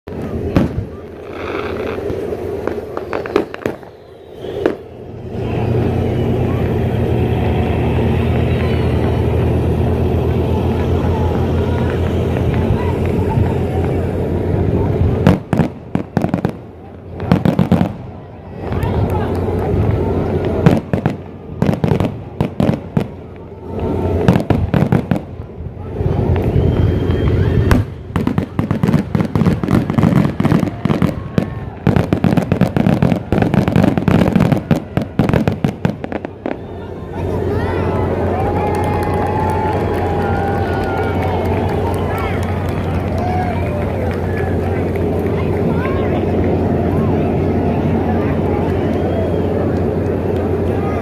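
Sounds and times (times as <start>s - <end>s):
fireworks bangs and cracks: 0.1s - 51.0s
low steady rumble: 0.1s - 51.0s.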